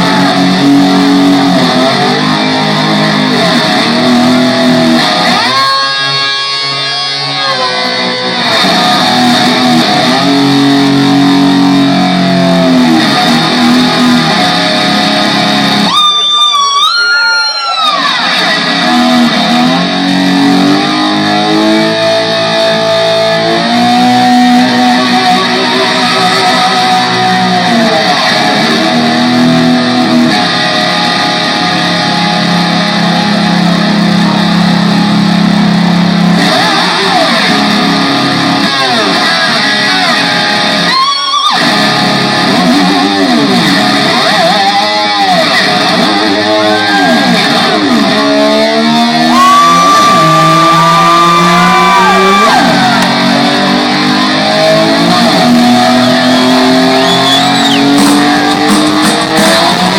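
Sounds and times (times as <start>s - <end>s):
electric guitar bent notes: 0.0s - 59.9s
live rock band playing: 0.0s - 59.9s.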